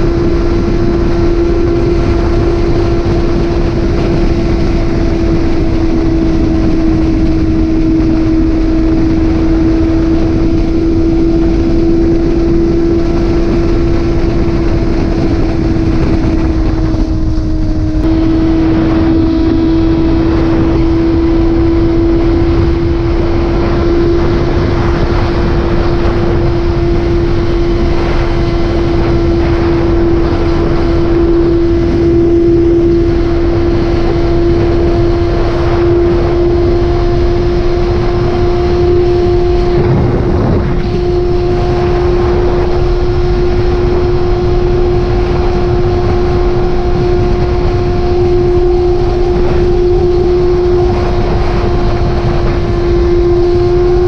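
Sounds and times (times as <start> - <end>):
motorcycle engine cruising: 0.0 - 54.0
wind rush: 0.0 - 54.0.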